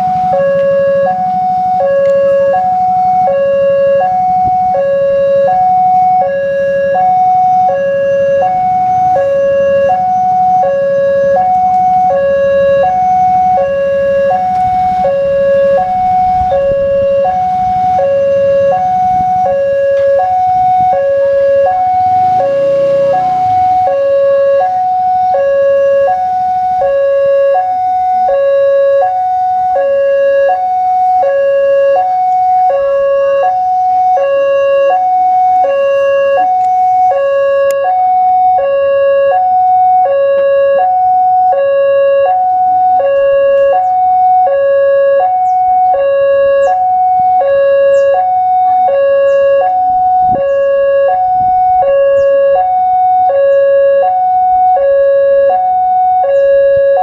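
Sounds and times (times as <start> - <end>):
level crossing two-tone alarm: 0.0 - 57.0.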